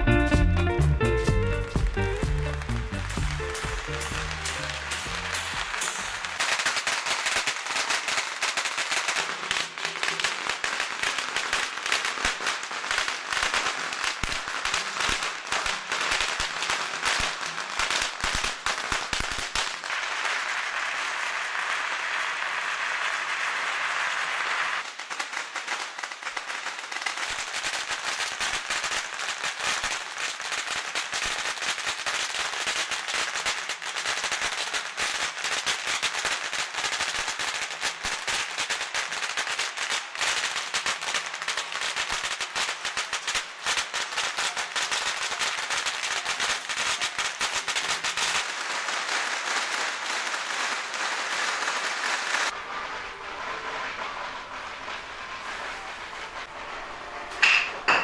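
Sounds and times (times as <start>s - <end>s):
rapid crackling and popping: 1.4s - 56.8s.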